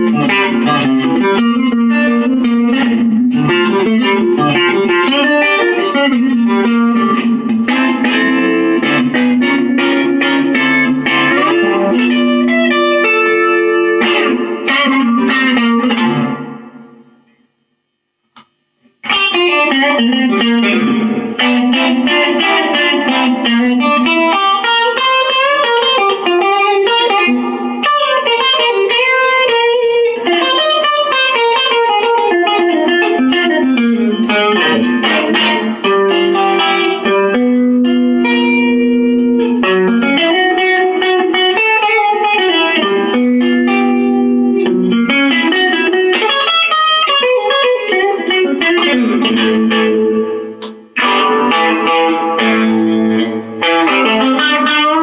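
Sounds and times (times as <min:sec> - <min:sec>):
electric guitar melody and chords: 0:00.0 - 0:55.0.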